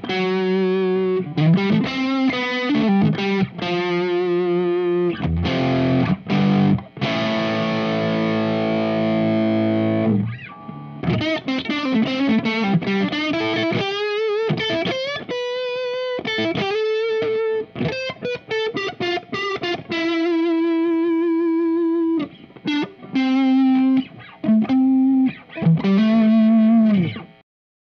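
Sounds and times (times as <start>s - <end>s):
overdriven electric guitar lead: 0.0s - 27.4s.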